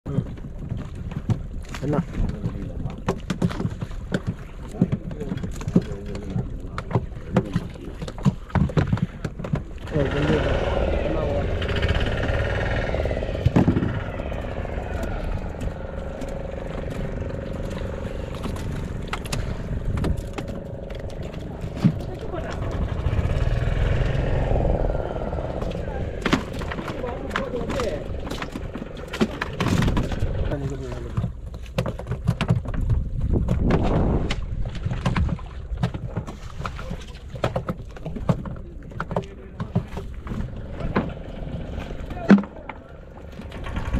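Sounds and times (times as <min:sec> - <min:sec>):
boat engine running: 0:00.1 - 0:43.9
wind buffeting microphone: 0:00.1 - 0:43.9.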